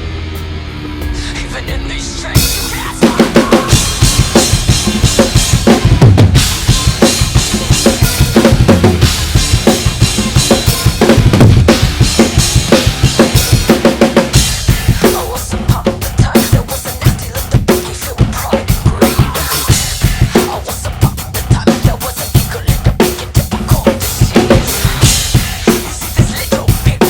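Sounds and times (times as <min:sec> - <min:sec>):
drum kit played hard: 0:00.0 - 0:27.0
heavy metal backing track: 0:00.0 - 0:27.0.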